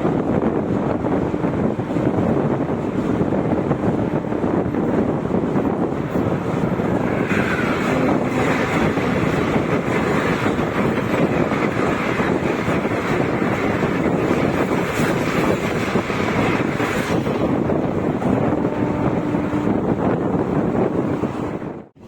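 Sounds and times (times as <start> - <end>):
passenger train rumbling: 0.0 - 22.0
wind buffeting microphone: 0.0 - 22.0.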